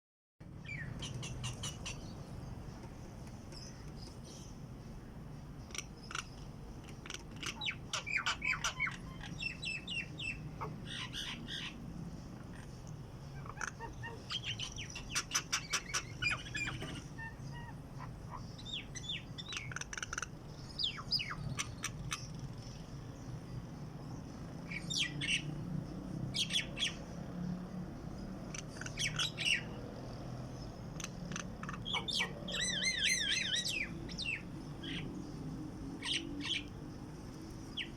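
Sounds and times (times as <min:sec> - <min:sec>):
songbird chirping: 0:00.4 - 0:37.9.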